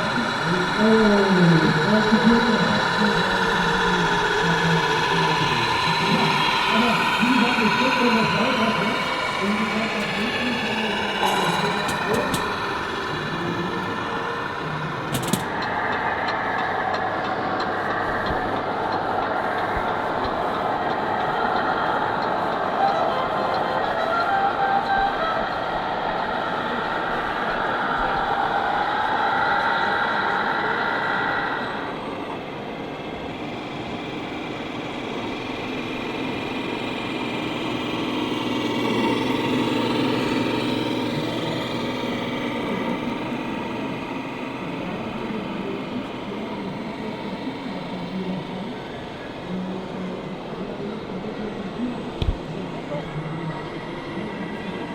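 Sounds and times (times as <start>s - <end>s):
model truck engine sound: 0.0s - 54.9s.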